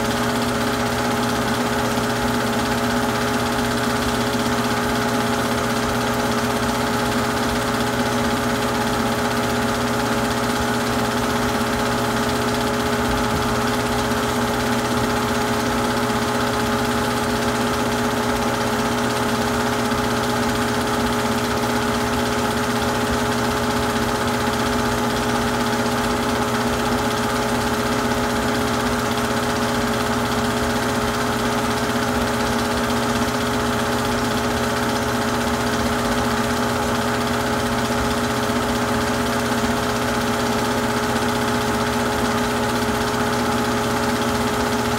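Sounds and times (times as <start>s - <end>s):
film projector hum and whir: 0.0s - 44.9s.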